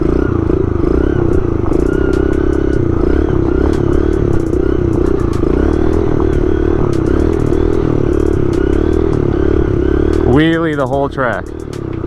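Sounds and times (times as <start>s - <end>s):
small motorbike engine revving: 0.0s - 12.0s.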